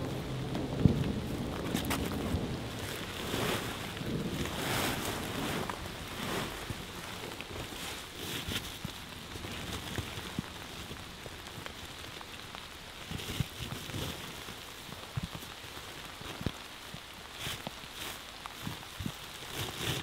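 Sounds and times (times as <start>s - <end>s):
leaves and sacking rustling: 0.0s - 20.0s
steady rain: 0.0s - 20.0s.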